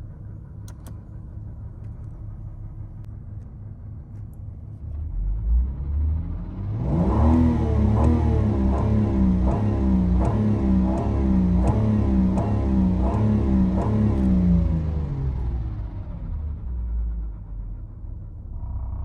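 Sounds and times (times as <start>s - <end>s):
car engine idling: 0.0s - 6.7s, 7.8s - 19.0s.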